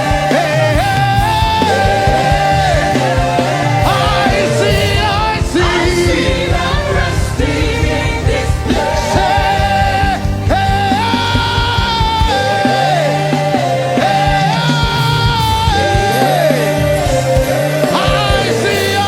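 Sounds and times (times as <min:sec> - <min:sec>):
band with steady low bass: 0:00.0 - 0:19.0.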